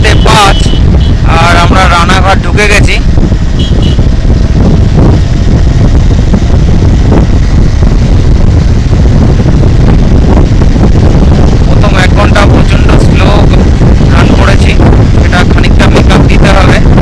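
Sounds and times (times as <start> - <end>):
motorcycle moving: 0.0 - 17.0
wind rumble on microphone: 0.0 - 17.0.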